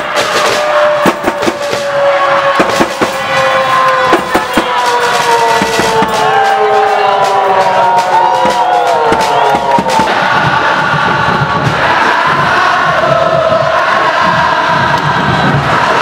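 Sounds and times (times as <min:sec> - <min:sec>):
sharp bangs: 0:00.0 - 0:14.2
football crowd din: 0:00.0 - 0:16.0.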